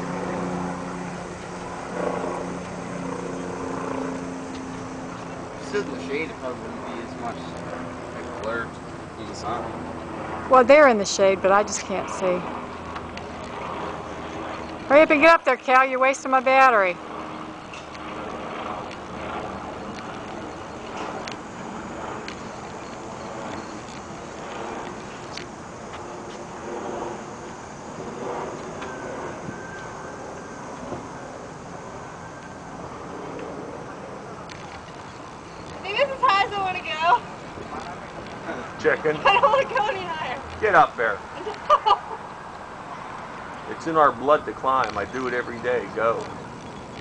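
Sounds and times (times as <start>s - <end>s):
low engine-like mechanical hum: 0.0s - 47.0s
outdoor background noise: 0.0s - 47.0s.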